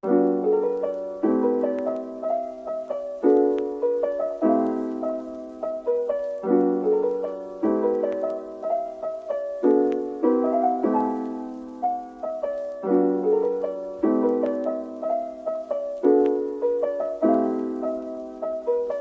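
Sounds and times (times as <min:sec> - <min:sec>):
gentle piano tune: 0:00.0 - 0:19.0.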